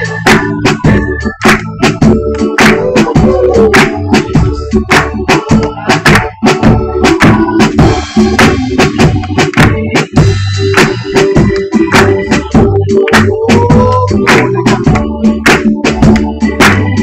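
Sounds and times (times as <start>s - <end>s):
drum kit beating steady rhythm: 0.0s - 17.0s
held organ chords: 0.0s - 17.0s.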